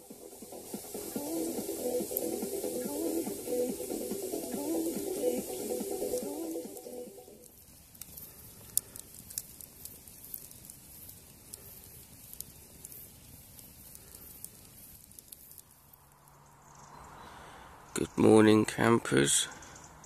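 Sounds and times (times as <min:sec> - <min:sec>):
campfire crackling and popping: 0:00.0 - 0:18.4.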